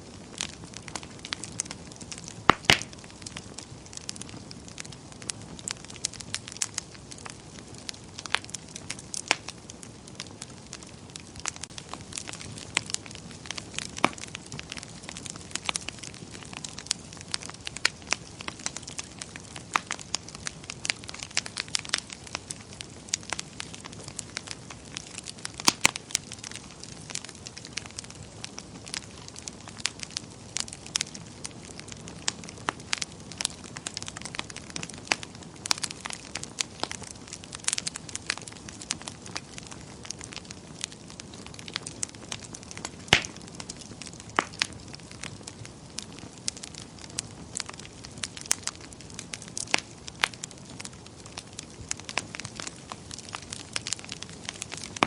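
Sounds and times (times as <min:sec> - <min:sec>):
low fire hiss: 0:00.0 - 0:55.0
wood fire crackling and popping: 0:00.0 - 0:55.0.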